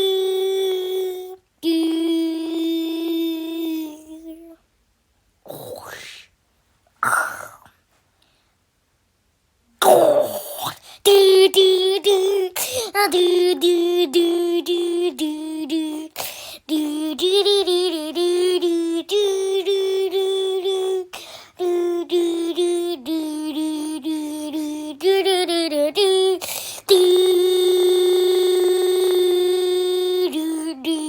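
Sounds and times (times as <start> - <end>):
high voice singing do do do: 0.0 - 4.7, 5.5 - 6.3, 9.8 - 31.0.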